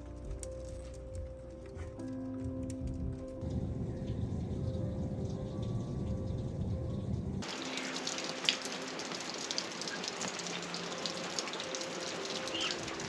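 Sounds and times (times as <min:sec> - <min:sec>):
music: 0:00.0 - 0:13.0
steady rain falling: 0:00.0 - 0:13.0.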